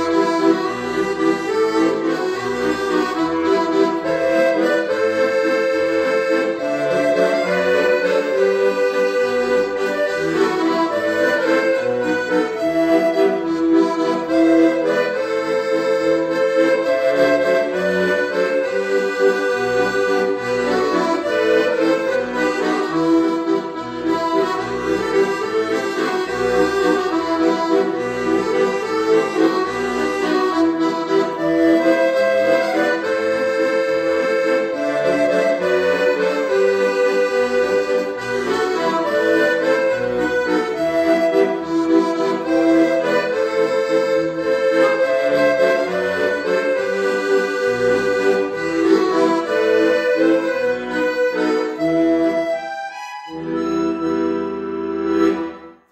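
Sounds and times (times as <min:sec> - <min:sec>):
accordion folk melody: 0:00.0 - 0:55.9.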